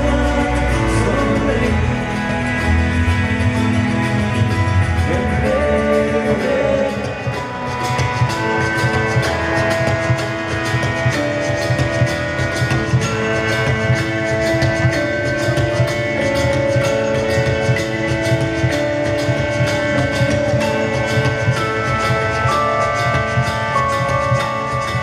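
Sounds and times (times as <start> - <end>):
rock band playing instrumental: 0.0 - 25.0.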